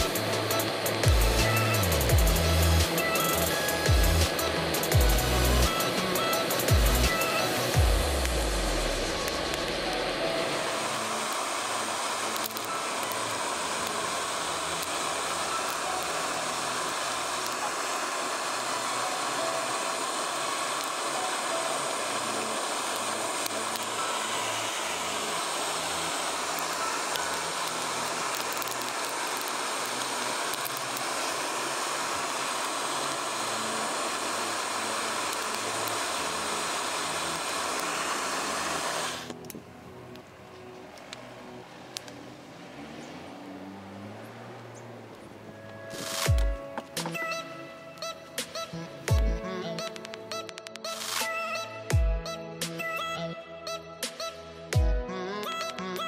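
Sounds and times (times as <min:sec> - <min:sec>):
blowtorch flame rushing: 0:00.0 - 0:40.3, 0:40.9 - 0:49.2.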